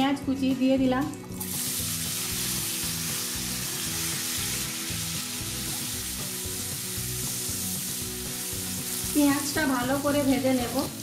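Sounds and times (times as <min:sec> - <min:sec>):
onions sizzling in hot oil: 0:01.4 - 0:11.0.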